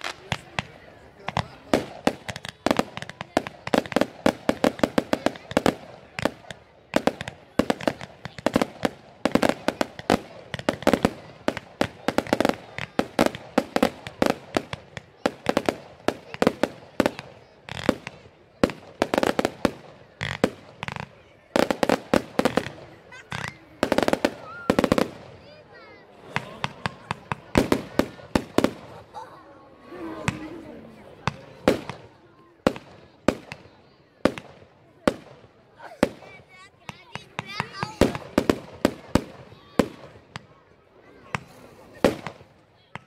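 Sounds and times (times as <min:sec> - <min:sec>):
fireworks bangs and crackle: 0:00.0 - 0:29.2, 0:30.2 - 0:43.0.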